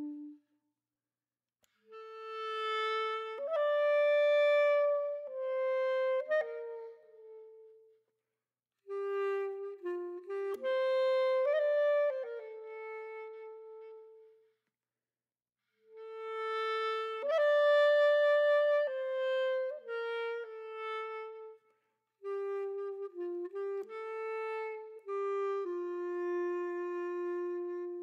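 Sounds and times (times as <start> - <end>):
slow solo woodwind melody: 0.0 - 0.4, 1.8 - 8.0, 8.8 - 14.5, 15.8 - 28.0.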